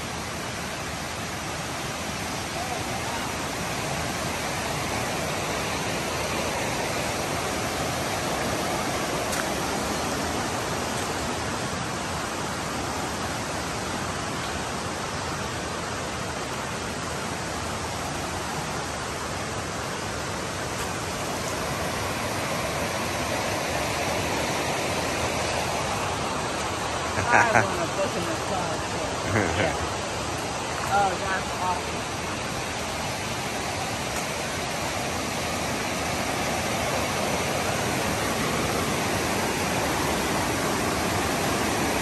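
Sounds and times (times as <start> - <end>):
river rushing over rapids: 0.0 - 42.0.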